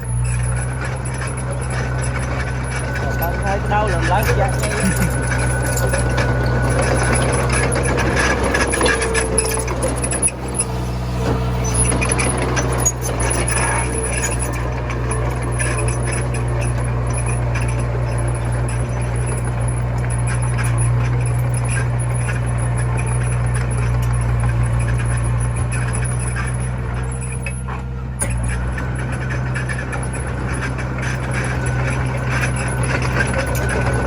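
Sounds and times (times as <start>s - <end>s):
bulldozer engine running: 0.0s - 34.0s.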